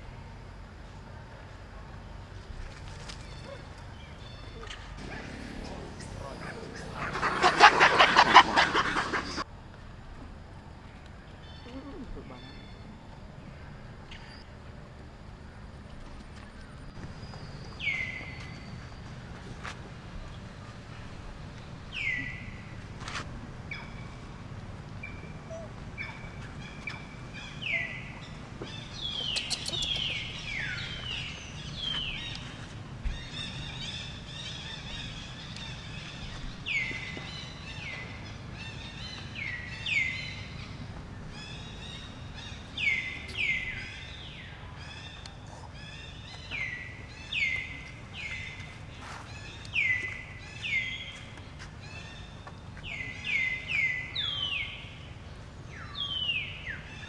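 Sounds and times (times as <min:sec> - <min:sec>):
birds calling downward notes: 0:03.3 - 0:09.5, 0:17.0 - 0:57.0.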